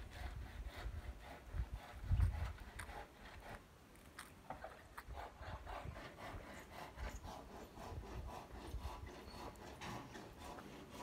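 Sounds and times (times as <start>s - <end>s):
hand saw cutting wood: 0.0s - 3.7s, 4.5s - 11.0s.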